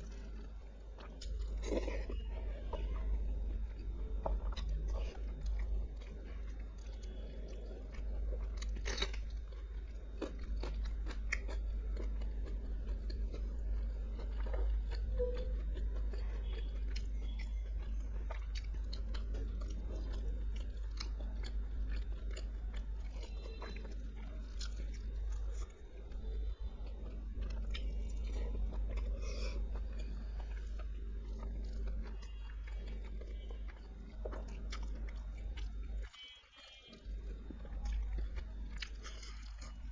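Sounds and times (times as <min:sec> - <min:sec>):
low hum: 0:00.0 - 0:39.9
person chewing crunchy food: 0:00.0 - 0:39.9.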